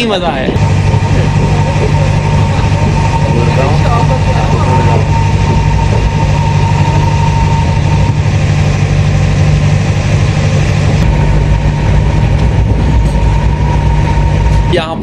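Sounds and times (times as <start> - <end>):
steam train rumbling on track: 0.0 - 15.0.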